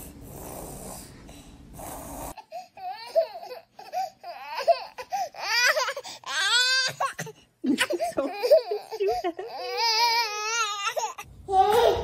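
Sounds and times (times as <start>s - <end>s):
baby crying: 2.3s - 12.0s.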